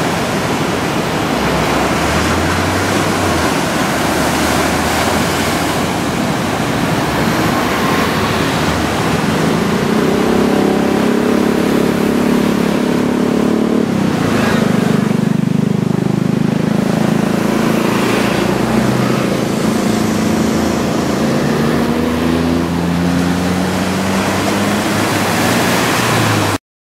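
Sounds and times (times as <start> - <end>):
surf breaking: 0.0 - 26.6
vehicles passing: 0.0 - 26.6.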